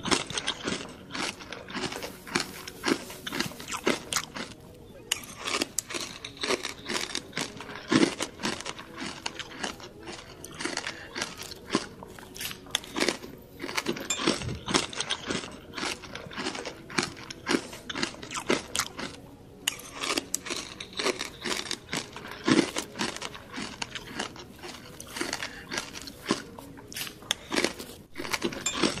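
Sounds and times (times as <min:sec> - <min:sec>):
crunching and chewing: 0:00.0 - 0:29.0.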